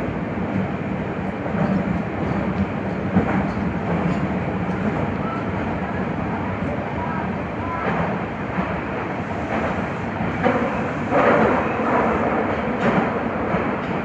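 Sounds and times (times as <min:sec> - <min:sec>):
subway train wheels rumbling on rail: 0:00.0 - 0:14.0.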